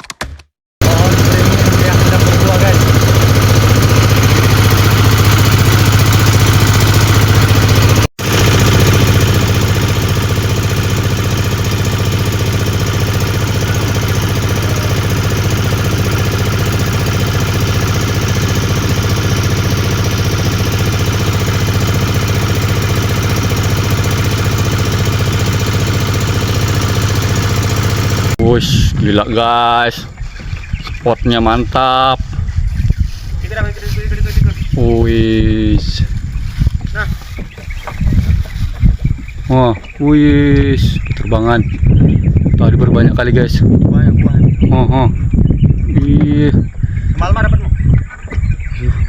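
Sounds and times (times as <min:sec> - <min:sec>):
vehicle engine running steadily: 0:00.8 - 0:28.9, 0:35.6 - 0:48.9.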